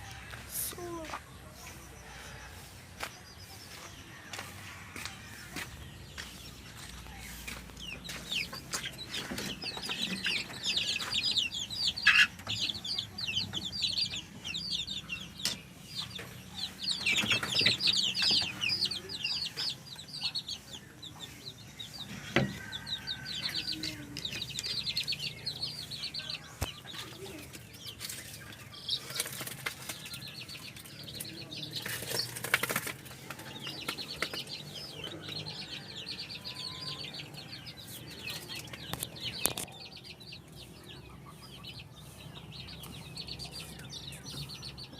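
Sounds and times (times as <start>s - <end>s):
chickens clucking: 0.0s - 44.9s
chickens peeping: 0.0s - 44.9s.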